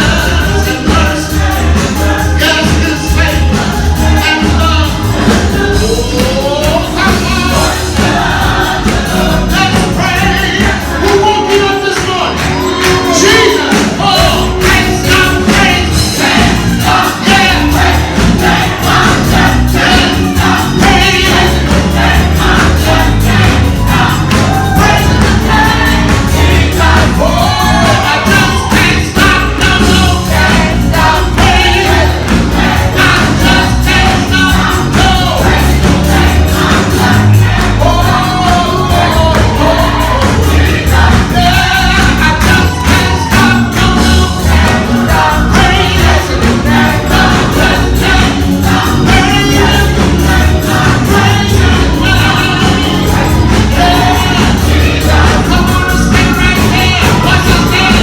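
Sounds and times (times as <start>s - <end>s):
band with heavy bass beat: 0.0s - 58.0s
choir singing: 0.0s - 58.0s.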